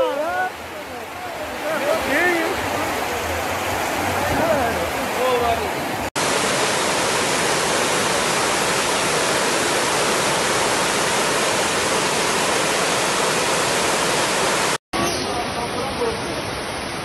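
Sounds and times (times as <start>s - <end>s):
rushing water from heavy rain: 0.0s - 17.0s.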